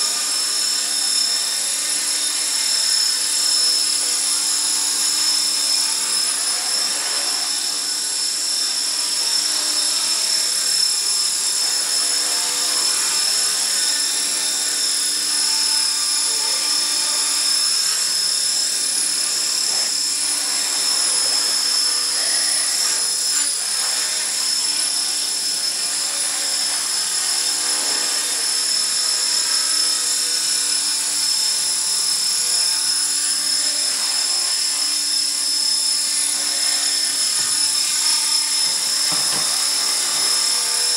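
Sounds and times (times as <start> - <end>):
rc helicopter motor whine: 0.0 - 40.9.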